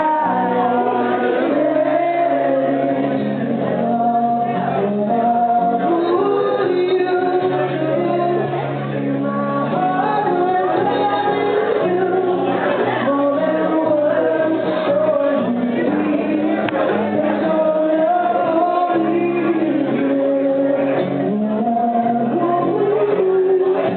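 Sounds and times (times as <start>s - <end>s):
mixed group singing: 0.0s - 23.9s.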